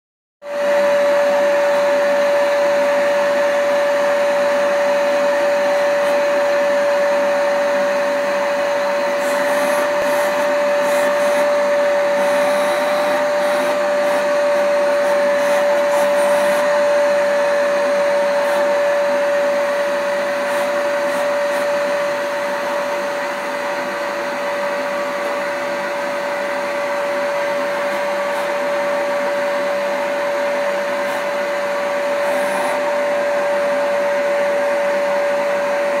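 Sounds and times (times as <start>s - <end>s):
vacuum cleaner running: 0.4s - 36.0s.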